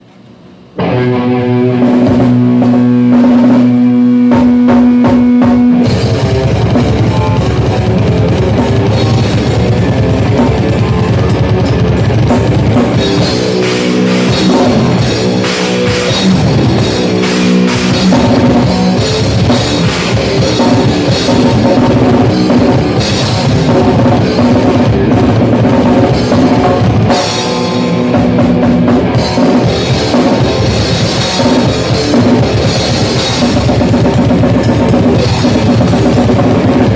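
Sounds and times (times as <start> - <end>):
guitar playing held chords: 0.8 - 36.9
rock band playing loudly: 0.8 - 36.9.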